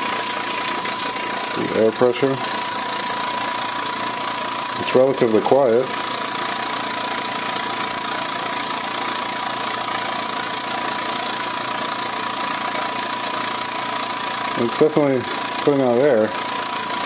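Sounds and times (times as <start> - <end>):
airbrush compressor humming: 0.0 - 17.0.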